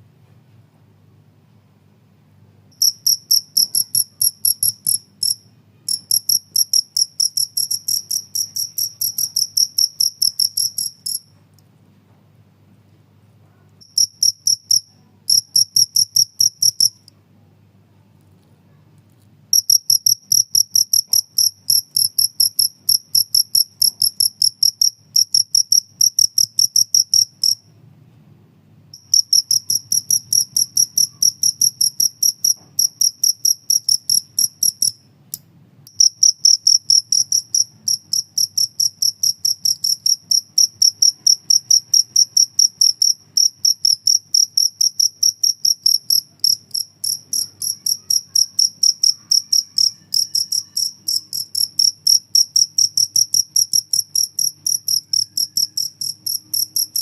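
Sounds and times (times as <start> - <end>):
cricket chirping: 2.7 - 11.4, 13.8 - 17.1, 19.5 - 27.7, 28.9 - 35.1, 35.9 - 57.0.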